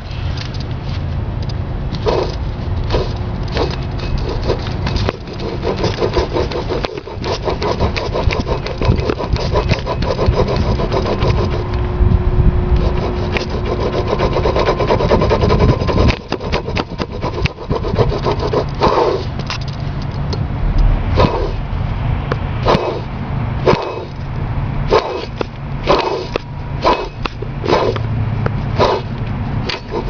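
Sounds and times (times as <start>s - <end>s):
pulley grinding: 1.9s - 11.9s, 12.6s - 20.4s, 21.1s - 21.6s, 22.6s - 24.3s, 24.9s - 30.0s.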